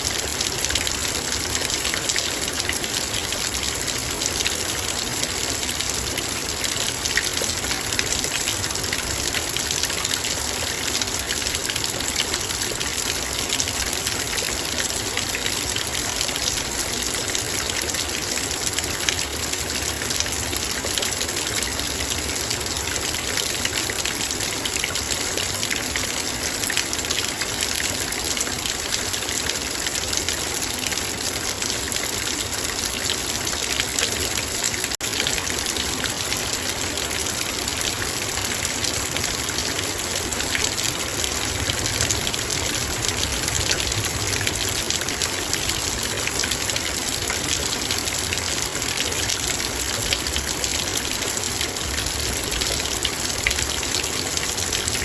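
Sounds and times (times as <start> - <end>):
heavy rain on metal bowl: 0.0 - 55.0.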